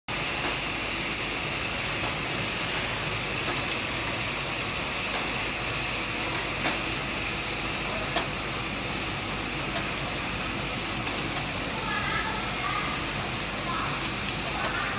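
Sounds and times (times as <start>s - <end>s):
machine mechanical hiss: 0.1s - 14.9s.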